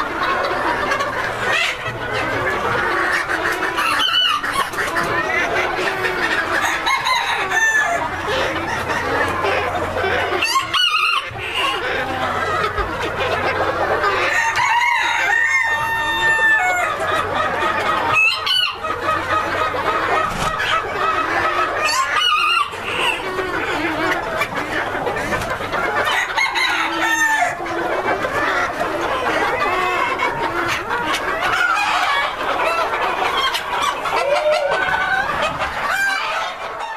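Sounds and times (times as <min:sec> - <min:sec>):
hens clucking: 0:00.0 - 0:36.9
roosters crowing: 0:00.0 - 0:36.9.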